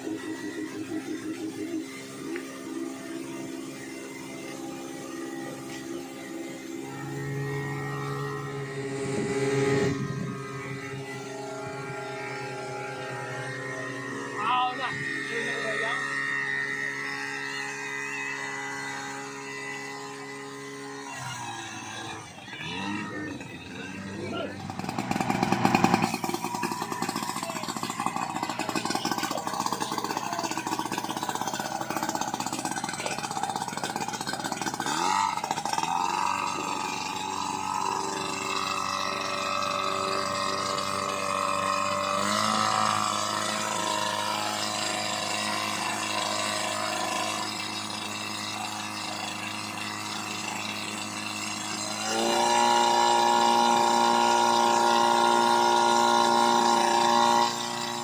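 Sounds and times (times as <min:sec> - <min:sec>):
fire pump engine running: 0:00.0 - 0:58.0.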